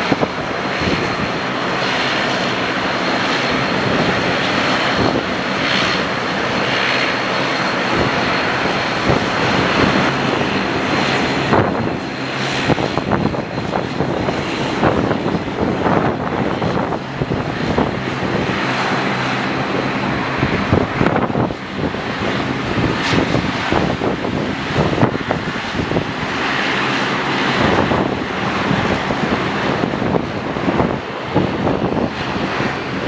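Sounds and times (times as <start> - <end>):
airliner engine noise: 0.0 - 33.0
wind buffeting microphone: 0.0 - 33.0.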